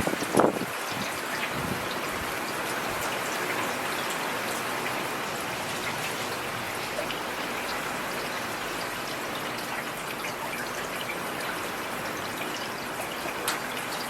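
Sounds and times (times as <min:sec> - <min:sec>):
raindrops ticking on hard surfaces: 0:00.0 - 0:14.0.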